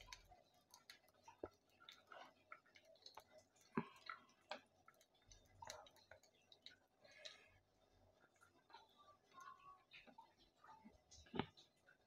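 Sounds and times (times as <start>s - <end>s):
mustard seeds crackling in oil: 0.0s - 12.0s.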